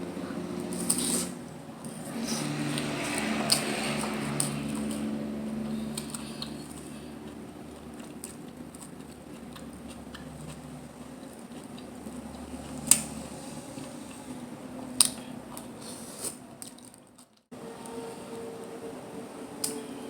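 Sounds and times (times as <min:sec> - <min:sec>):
chewing and squishing: 0:00.6 - 0:17.5.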